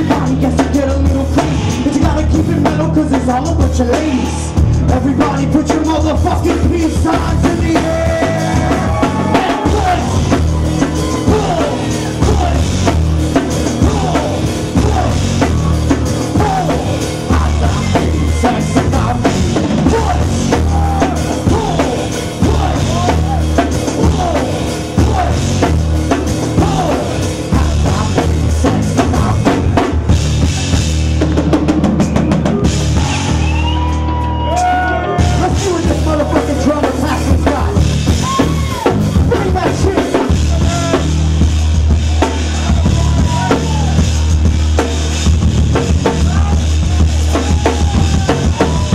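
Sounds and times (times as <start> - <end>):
heavy bass drum: 0.0 - 48.9
rap-rock band playing: 0.0 - 48.9.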